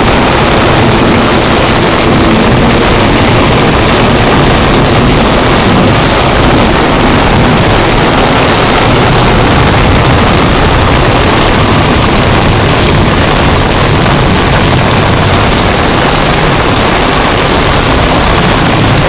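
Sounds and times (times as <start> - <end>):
heavy rain in strong wind: 0.0 - 19.0.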